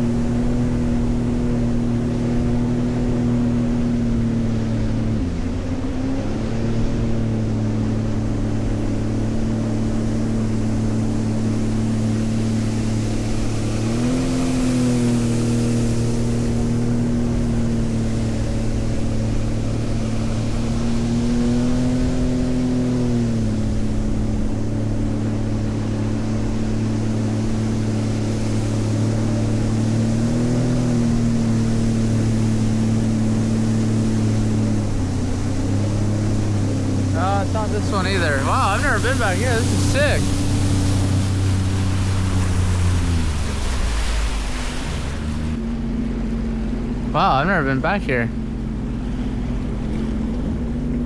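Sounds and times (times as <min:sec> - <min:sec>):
water hissing along hull: 0:00.0 - 0:45.6
personal watercraft engine running: 0:00.0 - 0:51.0.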